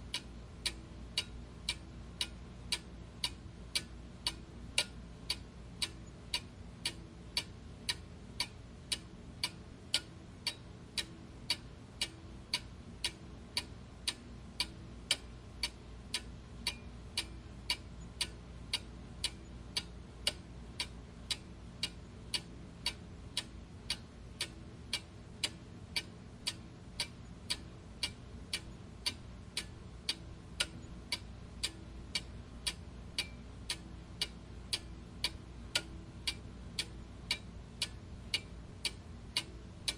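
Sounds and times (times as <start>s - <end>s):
faint low background hum: 0.0s - 39.9s
clock ticking: 0.1s - 39.9s.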